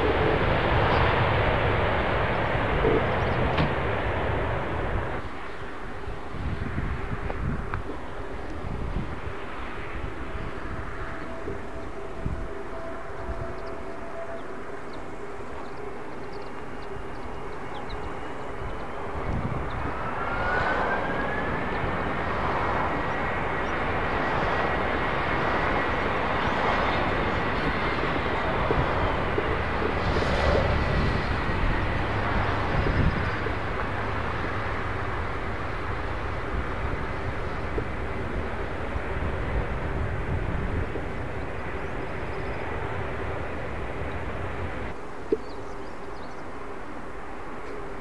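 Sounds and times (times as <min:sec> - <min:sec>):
jet engines roaring: 0:00.0 - 0:45.0
jet engine whine: 0:00.0 - 0:48.0.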